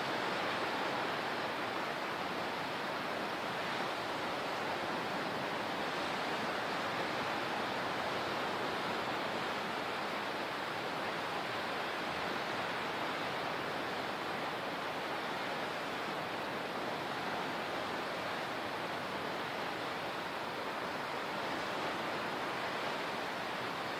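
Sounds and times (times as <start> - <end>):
water rushing: 0.0 - 23.9.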